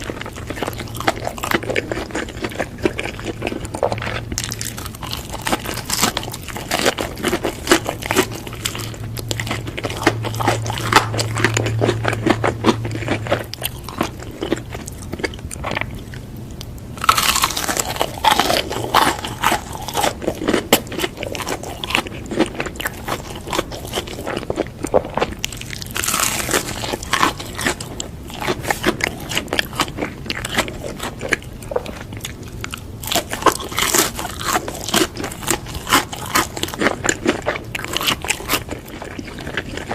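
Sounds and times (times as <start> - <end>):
crunchy bites: 0.0 - 39.9
person chewing food: 0.0 - 39.9.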